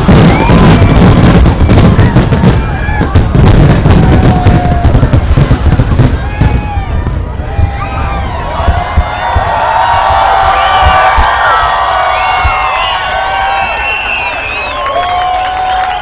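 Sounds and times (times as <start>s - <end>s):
fireworks booming and crackling: 0.0s - 14.3s
crowd voices: 0.0s - 16.0s.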